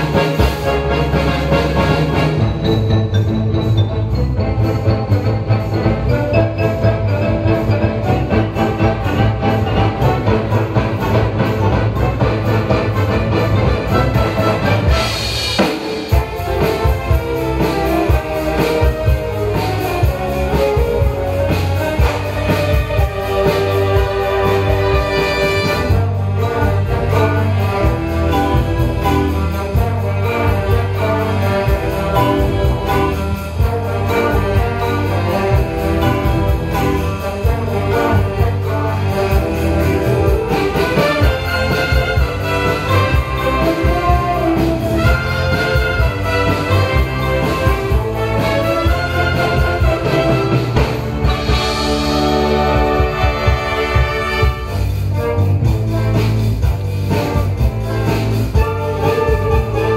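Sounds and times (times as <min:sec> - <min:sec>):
brass band playing rock: 0:00.0 - 0:59.9
drum kit beat: 0:00.0 - 0:59.9.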